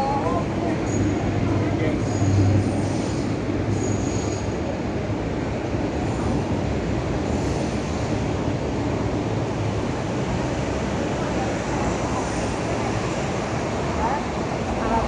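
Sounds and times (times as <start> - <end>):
bus engine hum: 0.0 - 15.0
road rumble: 0.0 - 15.0.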